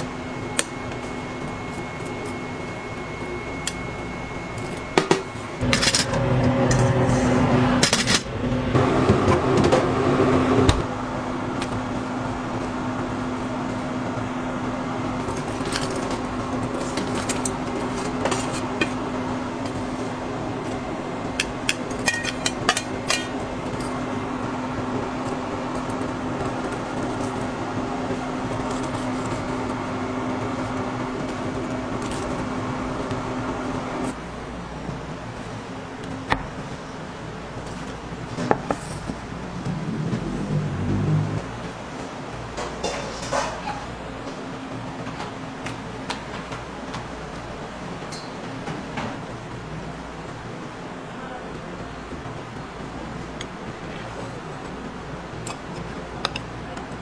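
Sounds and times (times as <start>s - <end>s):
appliance motor hum: 0.0s - 48.6s.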